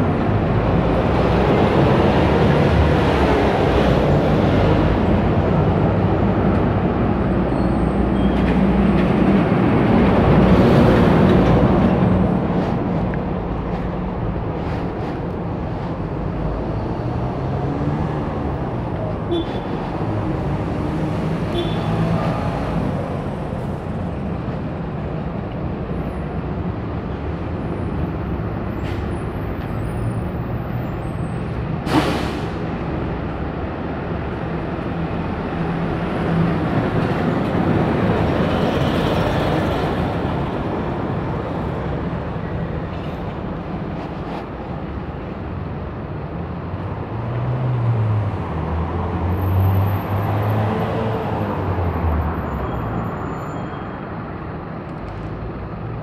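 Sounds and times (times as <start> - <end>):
rumble of passing vehicles: 0.0 - 56.0.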